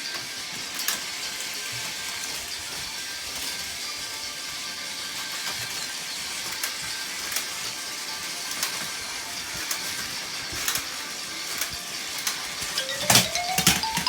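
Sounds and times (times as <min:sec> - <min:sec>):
sharp clicks of toy track: 0:00.0 - 0:14.0
toy train motors whirring: 0:00.0 - 0:14.0.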